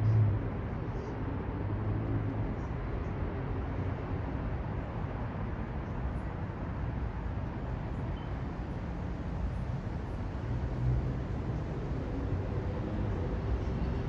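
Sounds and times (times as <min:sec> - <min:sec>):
city traffic: 0:00.0 - 0:14.0.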